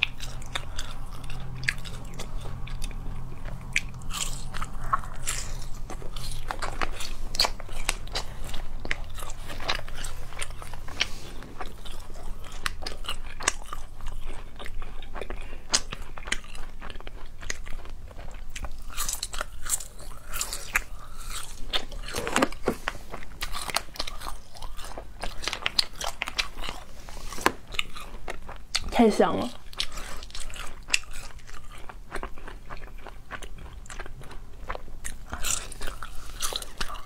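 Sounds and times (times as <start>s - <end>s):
chewing and biting: 0.0s - 37.0s.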